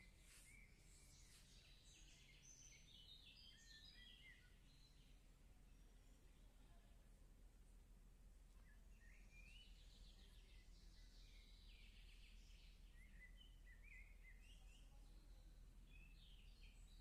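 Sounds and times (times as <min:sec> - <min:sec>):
small birds chirping: 0:00.0 - 0:07.4, 0:08.4 - 0:17.0.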